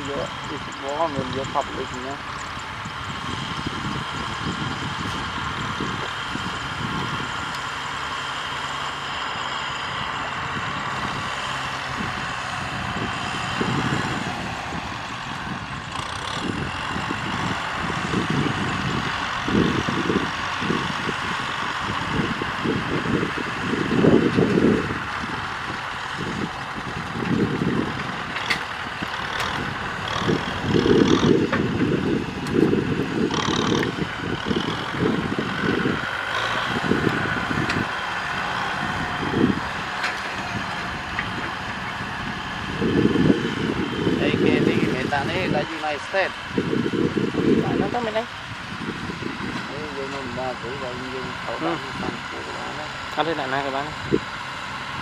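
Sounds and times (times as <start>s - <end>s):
low rumbling surges: 0.0s - 55.0s
tractor diesel engines under load: 0.0s - 55.0s.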